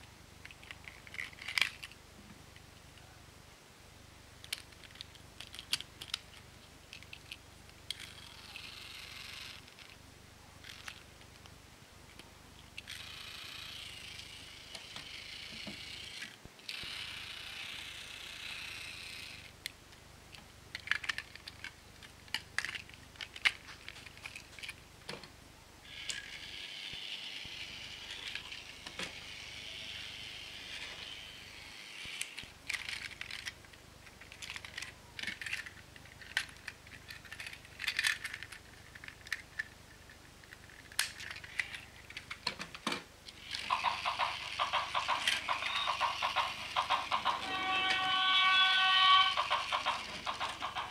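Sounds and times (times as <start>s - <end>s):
plastic toy train cars clicking: 0.4s - 2.0s, 4.4s - 10.0s, 10.6s - 11.5s, 12.1s - 25.3s, 25.9s - 50.9s
toy train motor whirring: 0.4s - 2.0s, 4.4s - 10.0s, 10.6s - 11.1s, 12.8s - 19.6s, 20.7s - 24.8s, 25.8s - 42.4s, 43.3s - 50.9s.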